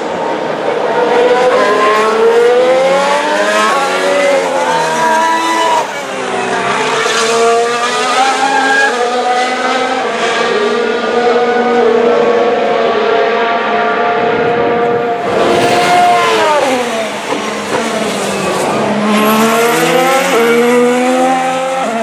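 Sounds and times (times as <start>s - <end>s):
racing car engines accelerating: 0.0s - 22.0s.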